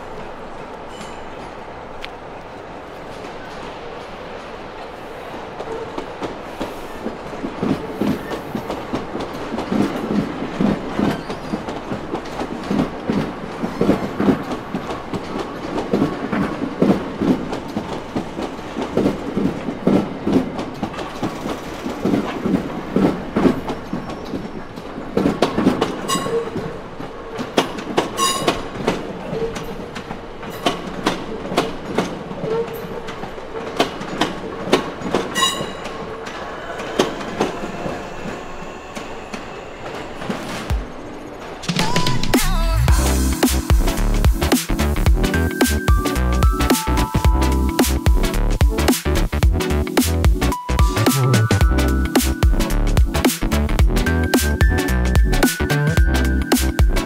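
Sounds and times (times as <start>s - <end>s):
train wheels clacking over rails: 0.0s - 57.0s.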